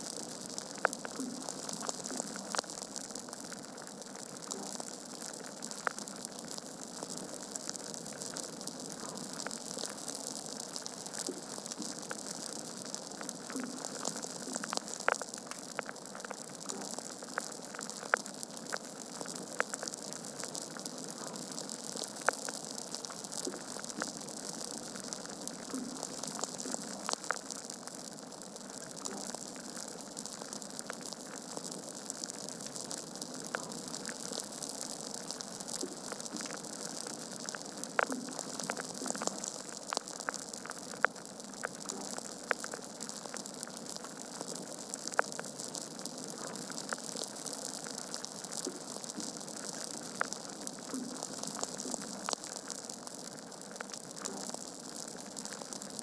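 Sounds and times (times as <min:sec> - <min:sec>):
pops and snaps of fire: 0:00.0 - 0:56.0
wood fire crackling: 0:00.0 - 0:56.0.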